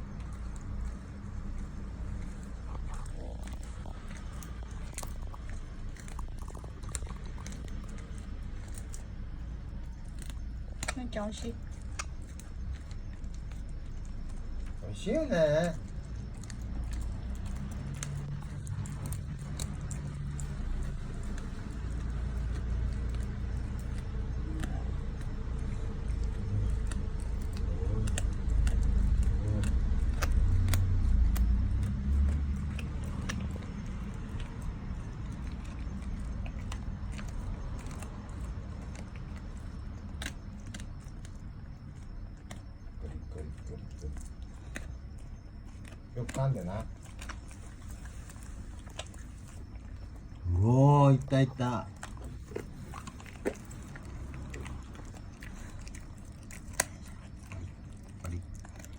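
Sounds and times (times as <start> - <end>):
dog crunching on a chew: 0.0 - 58.9.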